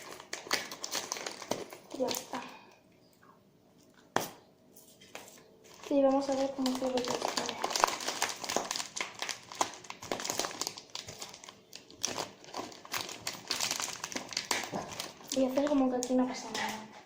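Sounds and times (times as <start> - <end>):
packaging crinkling: 0.0 - 2.5, 4.9 - 16.7.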